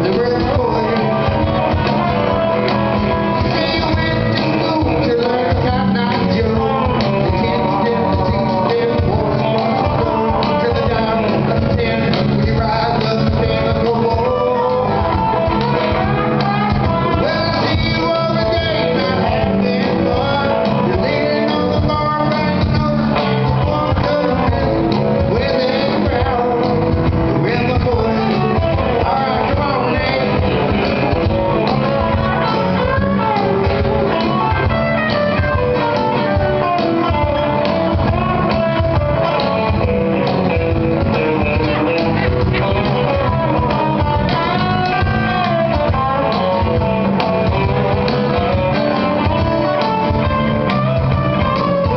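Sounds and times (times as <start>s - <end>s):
acoustic and electric guitars: 0.0s - 51.9s
cajon beat: 0.0s - 51.9s
man singing: 0.0s - 51.9s.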